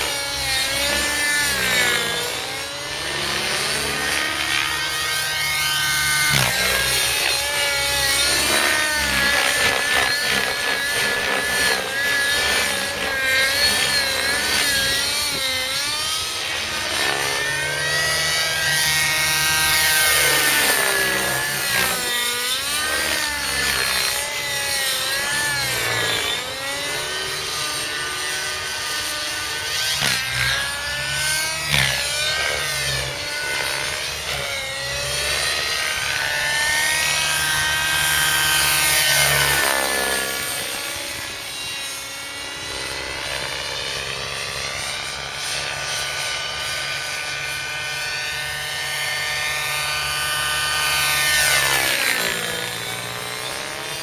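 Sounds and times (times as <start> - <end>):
model helicopter engine screaming: 0.0 - 54.0.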